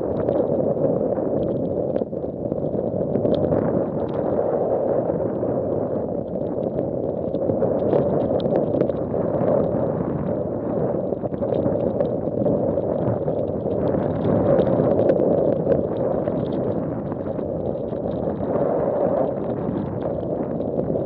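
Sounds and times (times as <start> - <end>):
wind gusting on microphone: 0.0 - 21.0.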